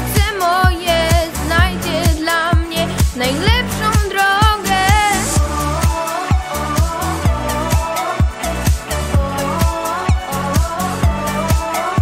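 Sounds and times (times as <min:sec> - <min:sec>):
bass line: 0:00.0 - 0:12.0
electronic kick drum: 0:00.1 - 0:12.0.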